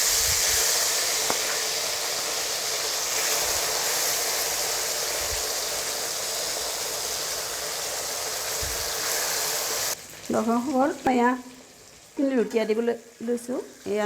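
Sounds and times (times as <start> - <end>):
fish sizzling in hot oil: 0.0 - 14.0.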